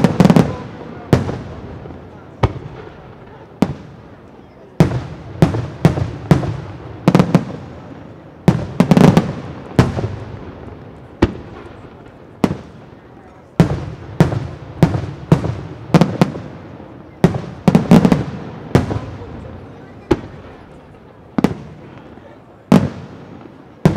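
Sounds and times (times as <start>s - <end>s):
fireworks bangs with echo: 0.0s - 23.9s.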